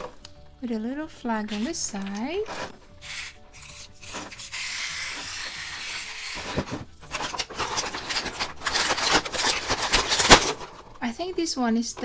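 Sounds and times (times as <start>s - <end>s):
plastic packaging rustling: 0.0s - 12.0s
plastic toy pieces clicking: 1.1s - 11.1s.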